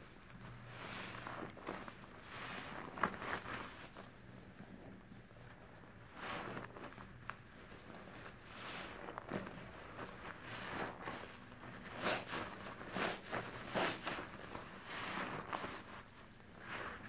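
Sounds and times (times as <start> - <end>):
sponges squelching in soapy water: 0.2 - 4.8, 6.0 - 17.0.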